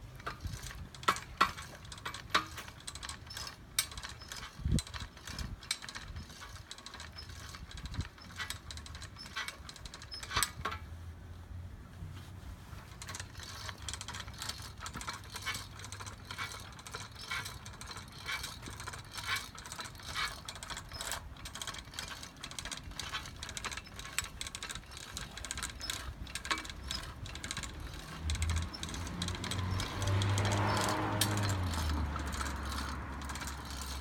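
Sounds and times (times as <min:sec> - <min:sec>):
chain and gears clicking: 0:00.0 - 0:10.8, 0:12.9 - 0:34.0.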